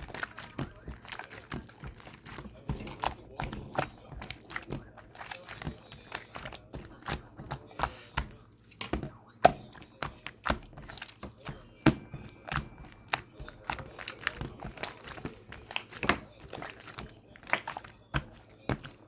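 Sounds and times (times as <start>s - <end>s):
crinkly rustles: 0.0s - 19.0s.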